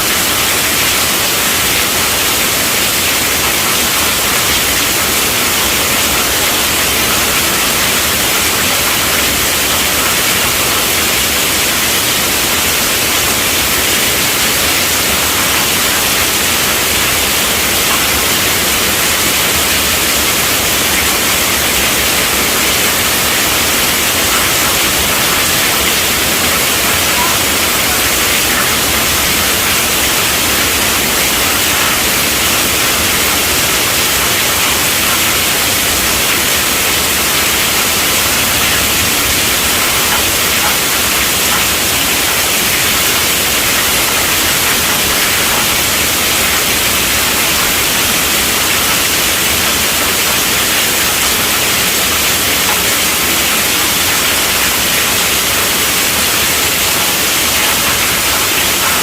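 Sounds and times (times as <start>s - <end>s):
heavy rain on a tent roof: 0.0s - 59.0s.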